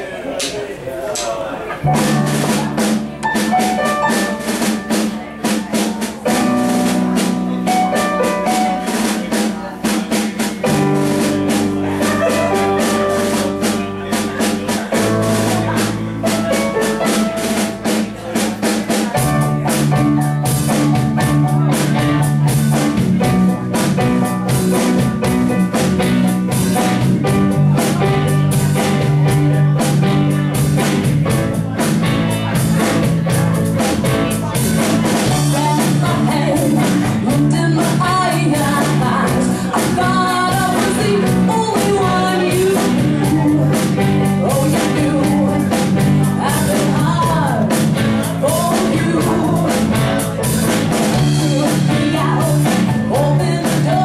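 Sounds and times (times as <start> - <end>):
live pop-rock band: 0.0 - 54.0
keyboard: 1.7 - 54.0
drum kit beat: 1.8 - 54.0
electric bass: 1.8 - 54.0.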